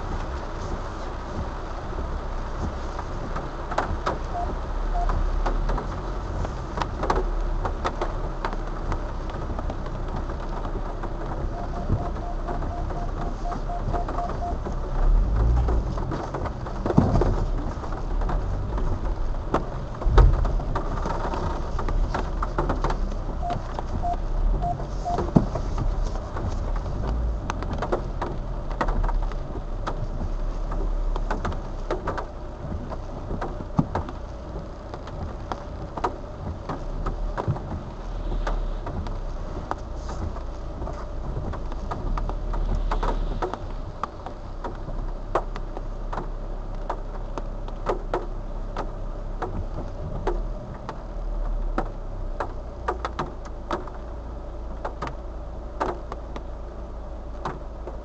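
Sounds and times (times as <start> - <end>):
rain drops on car windshield: 0.0 - 58.0
steady low rumble: 0.0 - 58.0.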